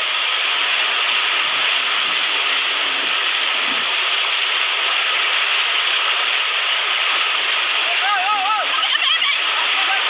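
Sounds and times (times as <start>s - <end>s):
waves breaking: 0.0s - 10.0s.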